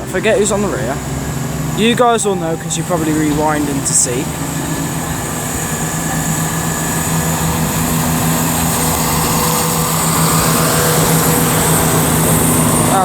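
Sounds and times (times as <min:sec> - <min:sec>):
diesel train engines humming: 0:00.0 - 0:13.0.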